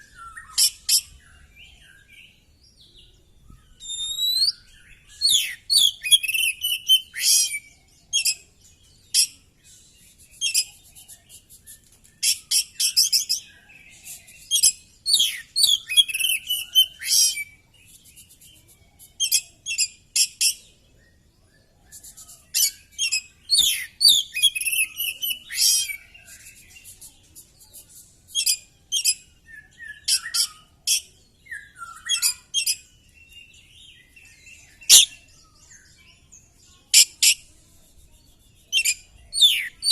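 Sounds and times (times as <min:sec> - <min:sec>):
songbird chattering and trilling: 0:00.0 - 0:21.2, 0:21.8 - 0:39.9.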